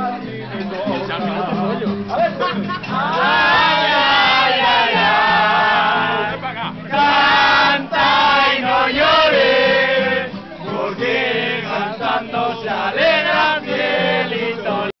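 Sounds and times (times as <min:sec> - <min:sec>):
voices singing loudly together: 0:02.8 - 0:15.0.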